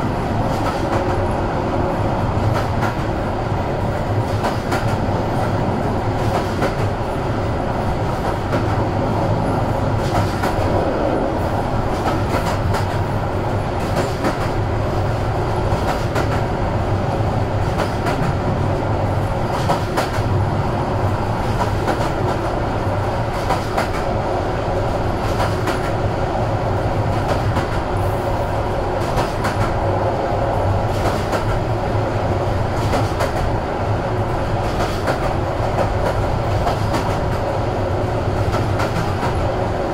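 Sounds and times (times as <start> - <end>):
train ride rumble: 0.0 - 39.9.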